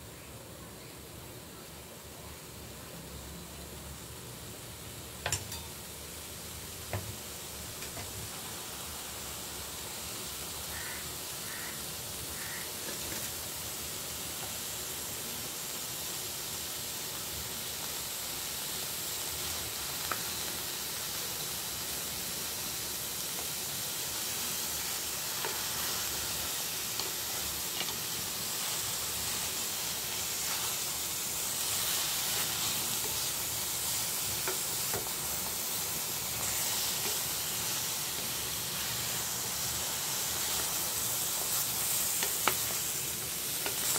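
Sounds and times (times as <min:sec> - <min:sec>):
vegetables sizzling in a pot: 0:00.0 - 0:43.9.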